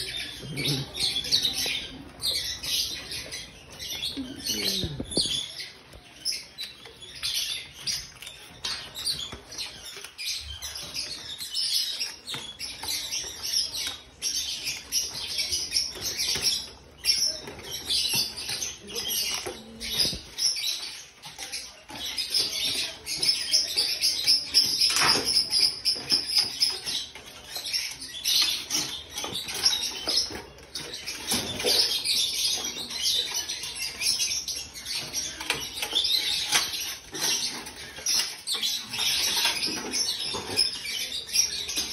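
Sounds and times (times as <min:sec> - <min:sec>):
dogs chewing and lapping: 0:00.0 - 0:41.9.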